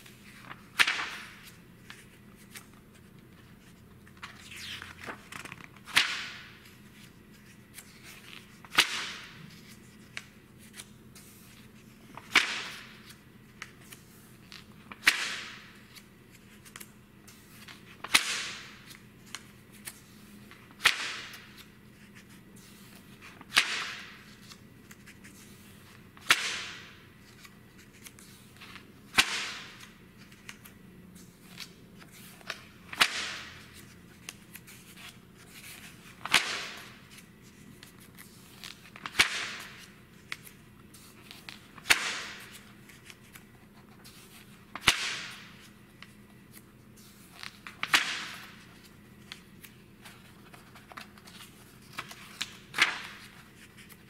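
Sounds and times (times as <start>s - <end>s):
magazine pages turning: 0.0s - 54.0s.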